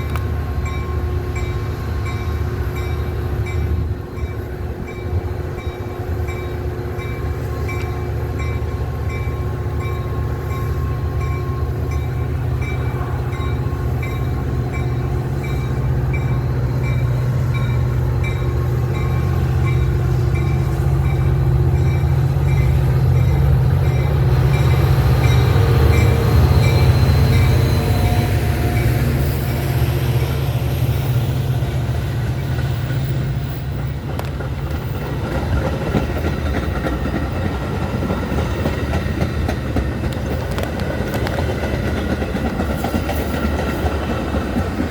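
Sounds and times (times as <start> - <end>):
train rumbling past: 0.0 - 44.9.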